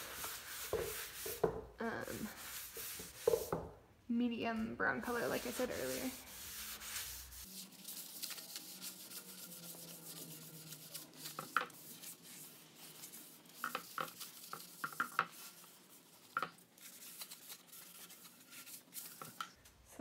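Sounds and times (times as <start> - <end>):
paper towel rubbing on wood: 0.0 - 3.6, 5.0 - 19.4.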